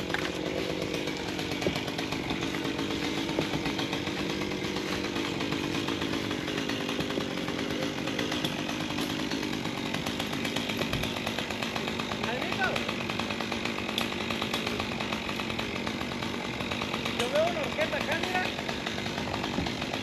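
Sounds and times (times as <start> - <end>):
chainsaw running: 0.0 - 20.0.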